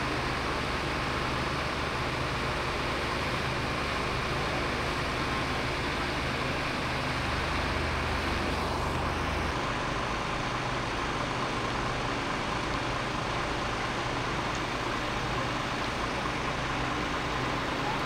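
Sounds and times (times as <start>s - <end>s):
diesel engines idling: 0.0s - 18.0s.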